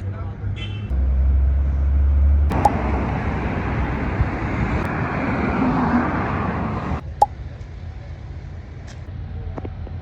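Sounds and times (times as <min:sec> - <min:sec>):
rushing traffic noise: 0:00.0 - 0:10.0.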